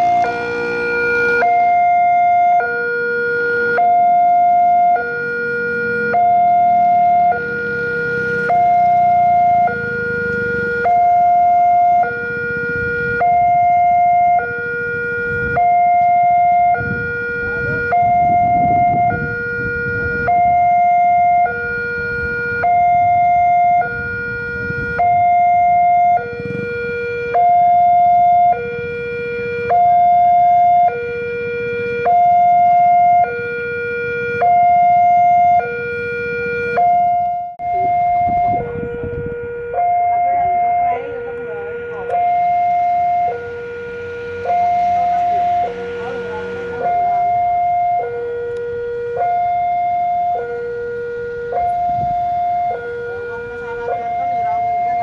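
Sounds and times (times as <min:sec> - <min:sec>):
level crossing two-tone alarm: 0:00.0 - 0:55.0.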